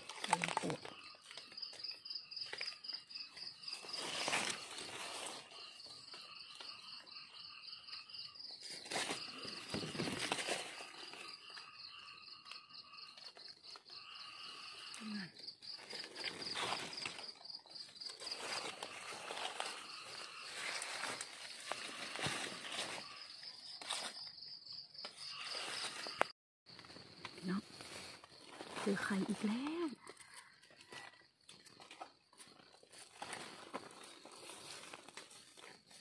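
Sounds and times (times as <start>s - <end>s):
digging in leaf litter: 0.0s - 7.3s, 8.4s - 36.0s
crickets trilling: 0.0s - 35.9s.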